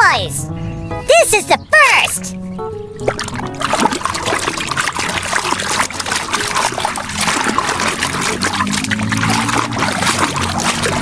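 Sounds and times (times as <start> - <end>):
water trickling and splashing: 1.4 - 11.0.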